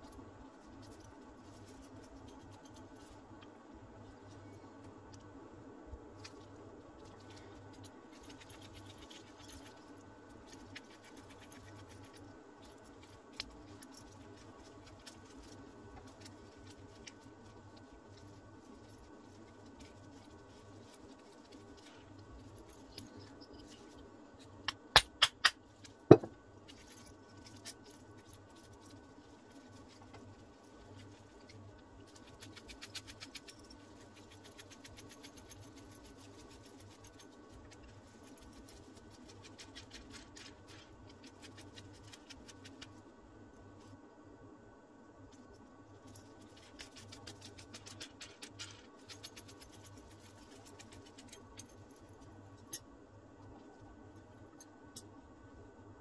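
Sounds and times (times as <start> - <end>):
small parts scratching and ticking: 0.0 - 5.3, 6.1 - 43.1, 45.2 - 55.1.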